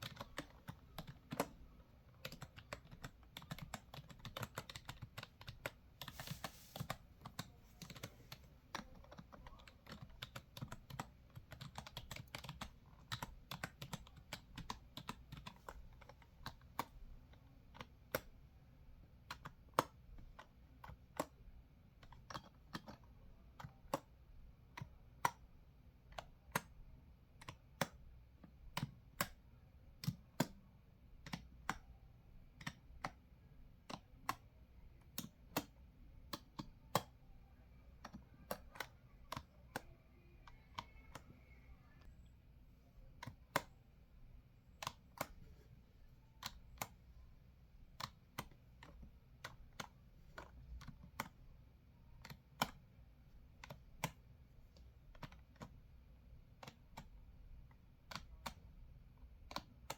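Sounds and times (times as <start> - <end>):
typing on computer keyboard: 0.0 - 18.4, 19.2 - 42.3, 47.9 - 59.9.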